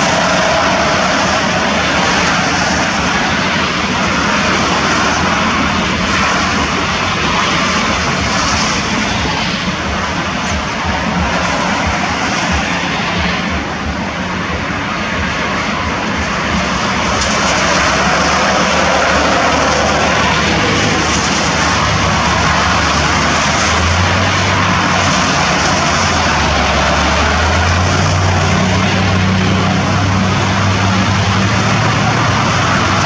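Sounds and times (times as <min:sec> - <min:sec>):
noise haze: 0:00.0 - 0:33.0
steady engine drone: 0:00.0 - 0:33.0.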